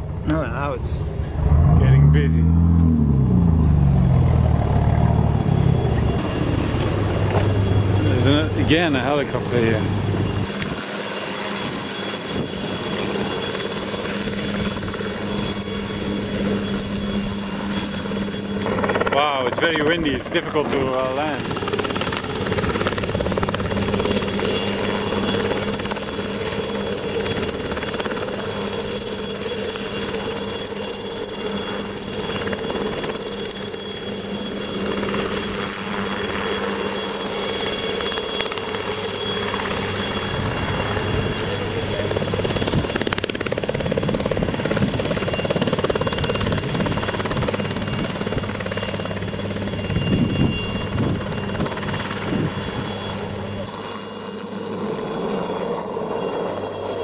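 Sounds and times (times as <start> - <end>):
helicopter rotor noise: 0.0 - 57.0
high turbine whine: 0.0 - 57.0.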